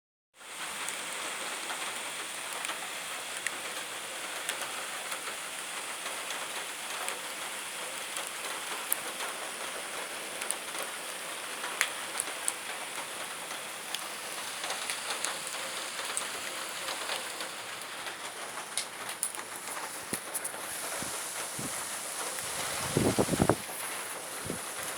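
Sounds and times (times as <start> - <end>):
steady rain falling: 0.4 - 24.9
raindrops ticking: 0.6 - 24.9.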